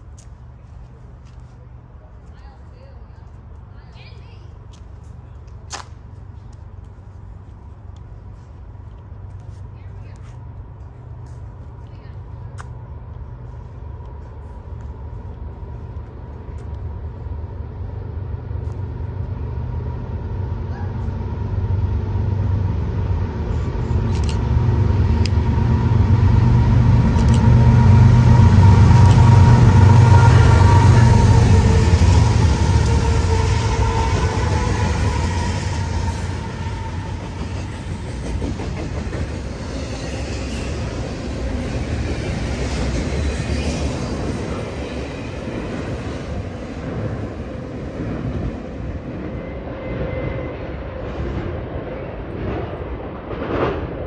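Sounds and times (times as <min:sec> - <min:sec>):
diesel train engine rumble: 0:00.0 - 0:54.0
train cars rolling past: 0:04.4 - 0:54.0.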